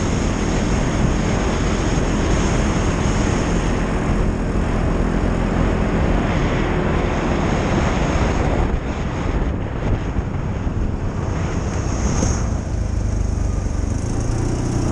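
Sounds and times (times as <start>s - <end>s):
atv engine running: 0.0s - 14.9s
wind buffeting microphone: 0.0s - 14.9s.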